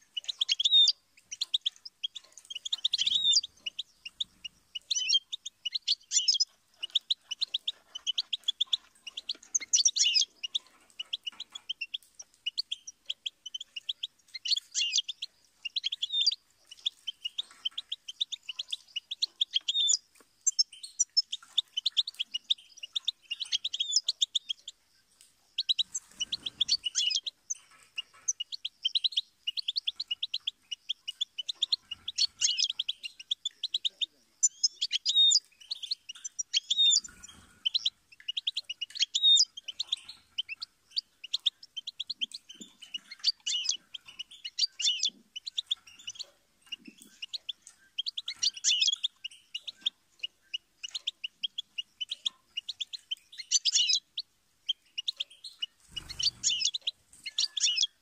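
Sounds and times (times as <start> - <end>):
bird twittering and trilling: 0.0 - 58.0.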